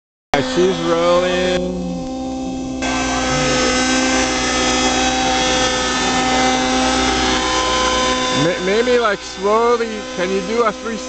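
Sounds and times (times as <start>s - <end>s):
model helicopter engine and rotors: 0.4s - 11.0s.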